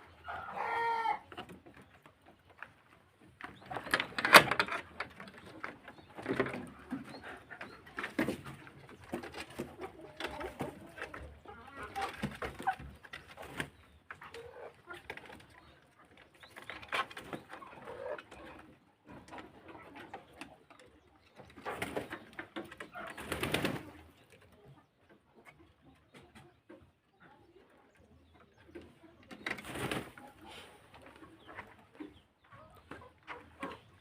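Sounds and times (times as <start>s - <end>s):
soft background birdsong: 0.0s - 34.0s.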